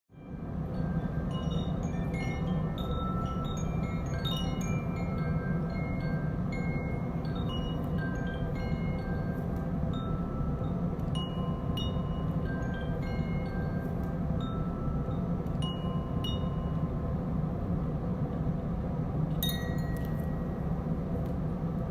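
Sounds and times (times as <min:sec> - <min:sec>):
chimes ringing: 0:00.2 - 0:17.0, 0:19.4 - 0:20.6.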